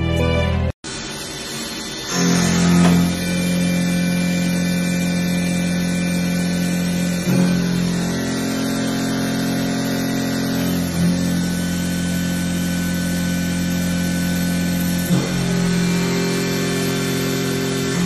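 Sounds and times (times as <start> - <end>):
milling machine cutting metal: 0.9 - 18.0.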